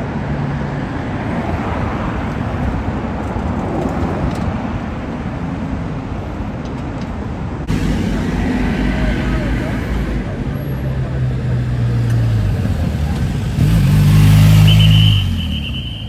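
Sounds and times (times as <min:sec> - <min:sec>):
cars driving past: 0:00.0 - 0:06.4, 0:07.3 - 0:16.0.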